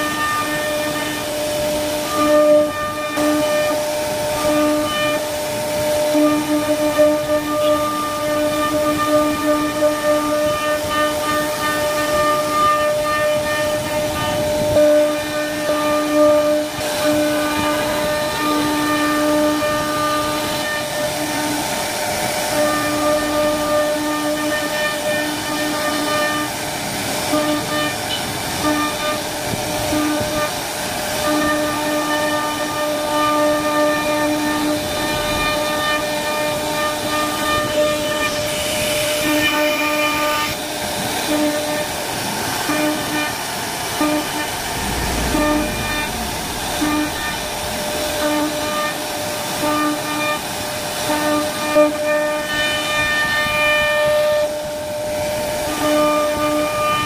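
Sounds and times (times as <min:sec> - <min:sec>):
cnc router spindle whining: 0:00.0 - 0:42.2, 0:42.9 - 0:54.6
hiss of wood cutting: 0:00.0 - 0:54.6.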